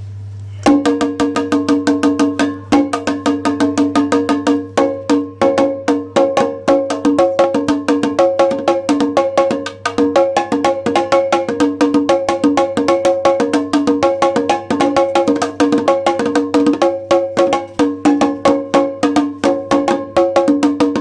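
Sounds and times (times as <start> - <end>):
kettle drums beaten fast: 0.6 - 21.0.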